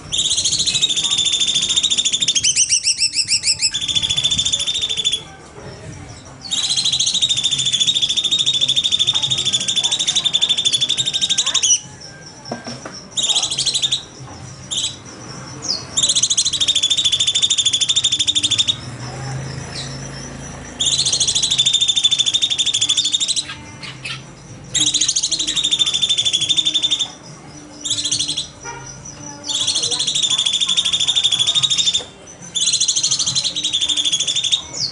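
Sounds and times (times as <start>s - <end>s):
bird singing buzzy trills: 0.0s - 34.9s.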